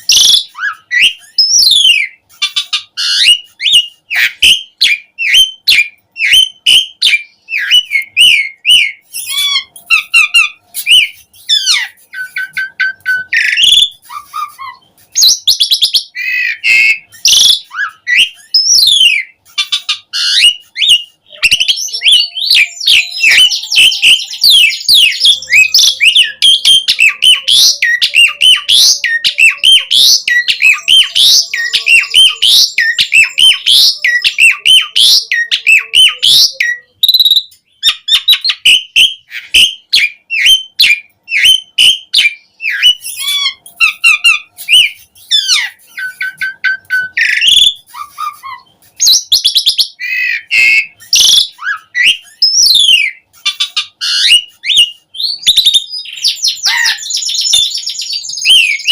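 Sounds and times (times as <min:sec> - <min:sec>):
starling singing: 0:00.0 - 0:58.9.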